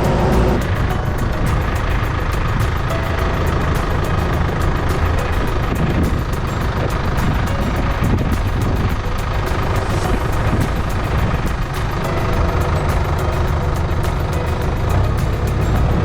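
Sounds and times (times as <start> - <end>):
excavator diesel engine ticking: 0.0 - 16.0
high steady tone: 0.0 - 16.0.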